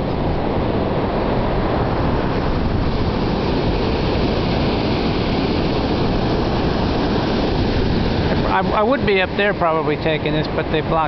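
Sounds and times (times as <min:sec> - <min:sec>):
ocean surf breaking: 0:00.0 - 0:11.0
wind rumble on microphone: 0:00.0 - 0:11.0.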